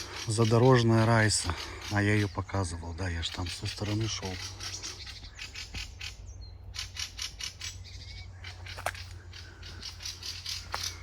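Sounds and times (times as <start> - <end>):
birds squawking: 0.0 - 11.0.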